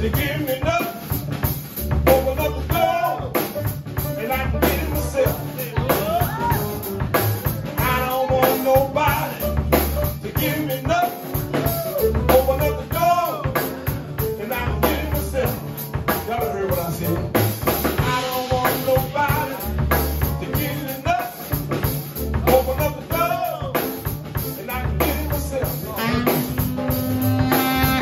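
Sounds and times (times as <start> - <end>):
plucked upright bass: 0.0 - 18.2, 18.8 - 20.8, 21.7 - 23.3, 24.4 - 28.0
drum kit: 0.0 - 28.0
man singing: 0.0 - 28.0
piano: 0.0 - 28.0.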